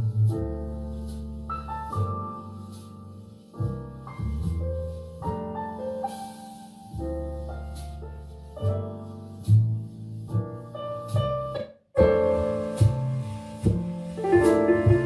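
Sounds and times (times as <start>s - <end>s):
piano music through small speaker: 0.0s - 15.0s.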